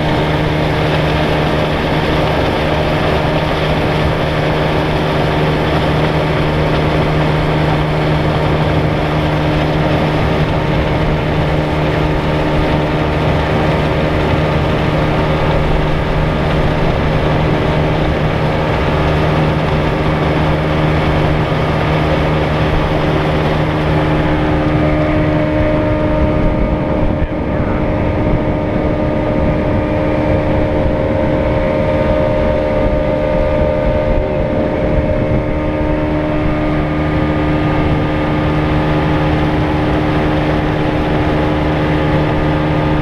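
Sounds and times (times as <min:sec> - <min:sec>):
boat motor humming: 0:00.0 - 0:43.0
rushing water: 0:00.0 - 0:43.0
wind: 0:00.0 - 0:43.0.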